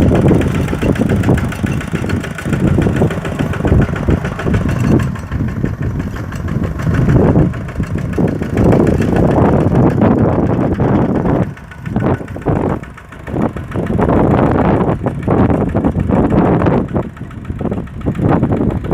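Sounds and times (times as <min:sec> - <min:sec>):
diesel engine chugging: 0:00.0 - 0:18.9.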